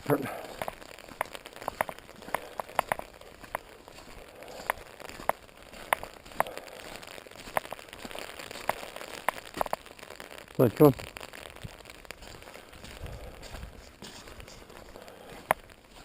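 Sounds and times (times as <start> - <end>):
rain hissing: 0.0 - 16.0
raindrops tapping on umbrella: 0.0 - 16.0.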